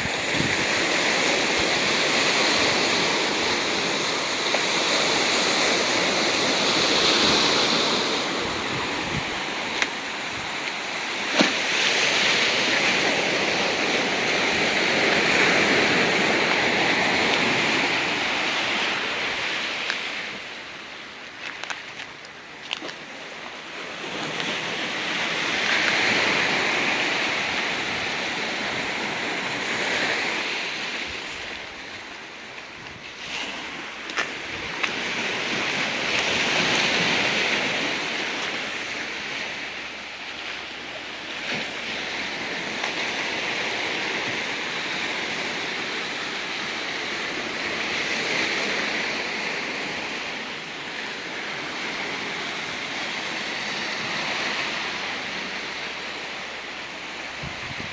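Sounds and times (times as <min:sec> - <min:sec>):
ocean waves on rocky beach: 0:00.0 - 0:57.9
wind: 0:00.0 - 0:57.9.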